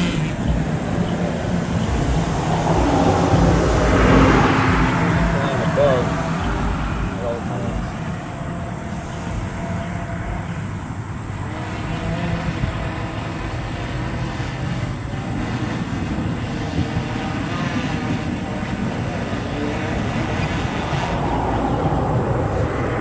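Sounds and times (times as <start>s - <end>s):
drone motors whirring: 0.0s - 23.0s
outdoor noise: 0.0s - 23.0s.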